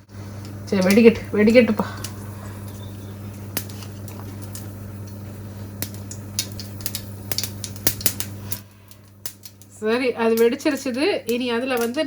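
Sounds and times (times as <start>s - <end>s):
mustard seeds popping in hot oil: 0.0s - 12.0s.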